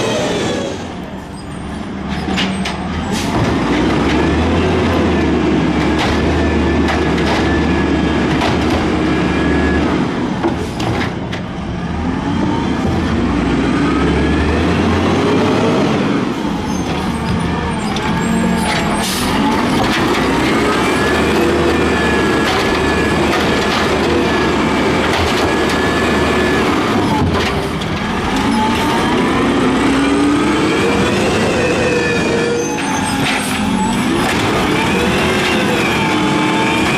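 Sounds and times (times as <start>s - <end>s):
diesel truck engine revving: 0.0s - 36.9s.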